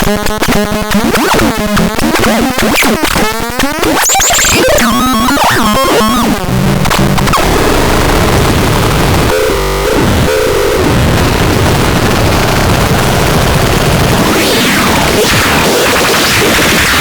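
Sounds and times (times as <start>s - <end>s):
harsh stuttering synthesized tones: 0.0s - 11.0s, 14.0s - 17.0s
buzzing stepped drone: 0.1s - 17.0s.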